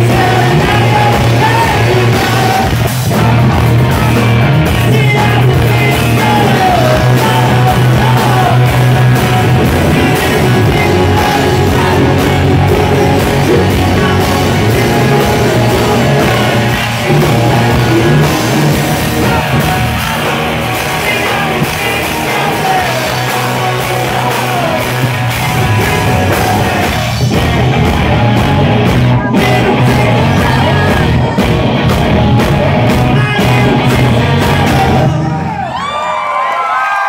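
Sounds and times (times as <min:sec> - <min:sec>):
male lead vocal: 0:00.0 - 0:35.9
rock band playing live: 0:00.0 - 0:36.3.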